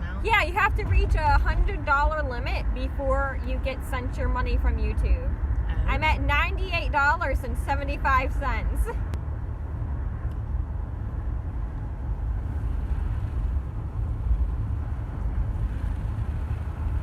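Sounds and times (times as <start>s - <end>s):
car interior rumble: 0.0s - 17.0s
road noise: 0.0s - 17.0s
wind through open window: 0.0s - 17.0s.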